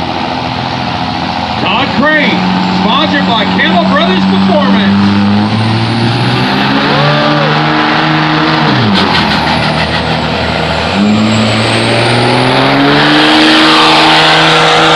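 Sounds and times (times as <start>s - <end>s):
diesel engine revving under load: 0.0s - 14.9s.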